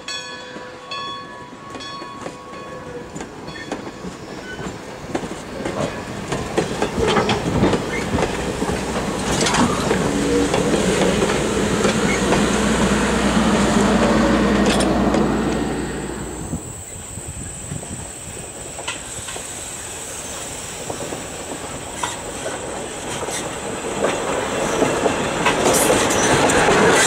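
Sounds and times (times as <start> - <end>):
train wheels clattering over rail joints: 1.7 - 15.7, 18.5 - 27.0.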